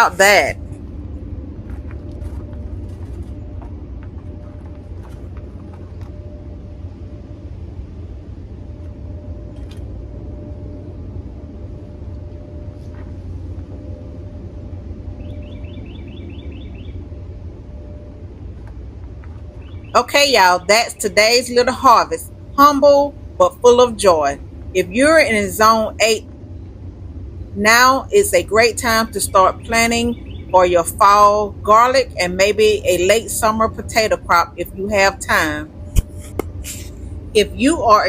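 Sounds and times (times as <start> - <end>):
faint steady hum: 0.0 - 38.0
low outdoor rumble: 0.0 - 38.0.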